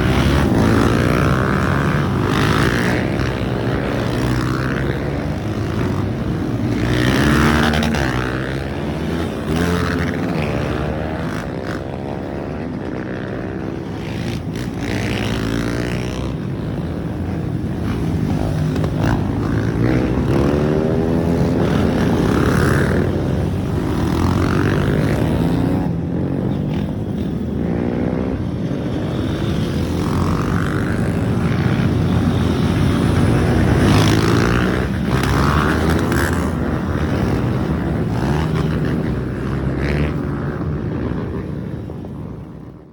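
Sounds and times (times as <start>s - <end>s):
motorcycles revving and passing: 0.0s - 42.9s.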